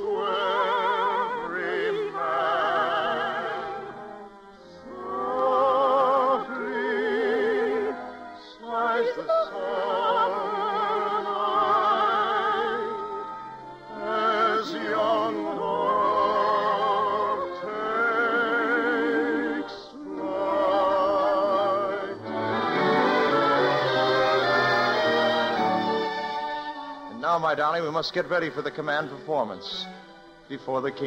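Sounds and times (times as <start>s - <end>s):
operatic singing with vibrato: 0.0s - 31.0s
orchestral accompaniment: 0.0s - 31.0s.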